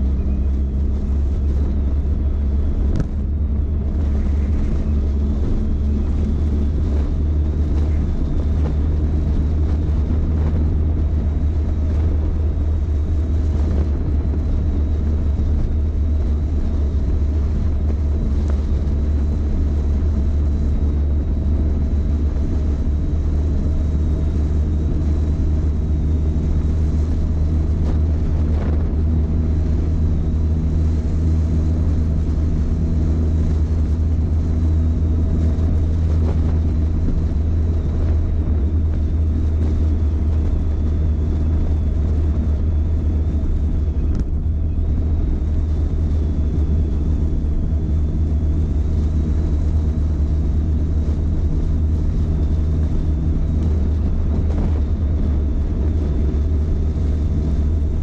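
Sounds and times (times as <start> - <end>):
motorcycle engine drone: 0.0 - 58.0
road and air noise: 0.0 - 58.0.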